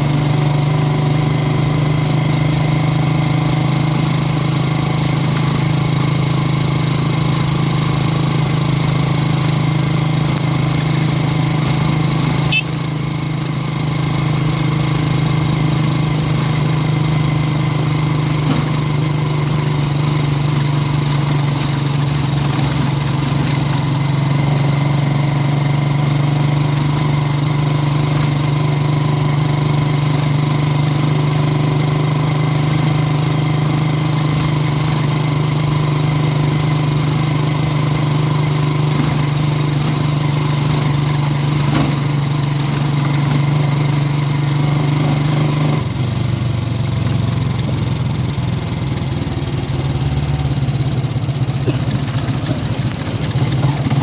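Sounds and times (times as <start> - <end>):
motorcycle engine humming: 0.0 - 54.0.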